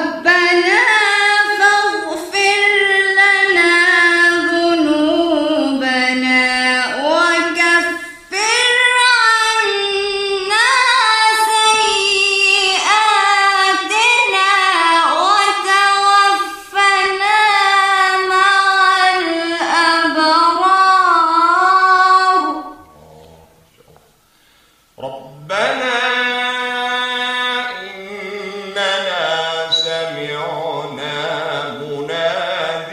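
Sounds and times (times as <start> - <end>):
woman reciting melodically: 0.0 - 23.0, 25.0 - 32.9.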